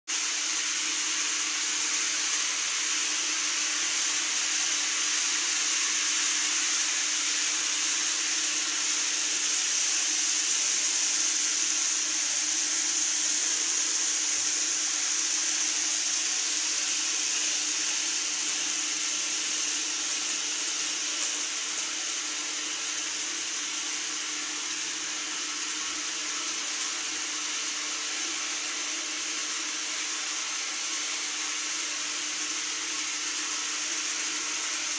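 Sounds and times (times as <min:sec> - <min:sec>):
model train whirring: 0:00.1 - 0:34.9.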